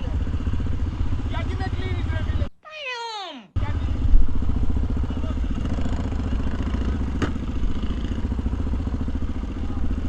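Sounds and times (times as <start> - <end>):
motorcycle engine running: 0.0 - 2.5, 3.6 - 10.0.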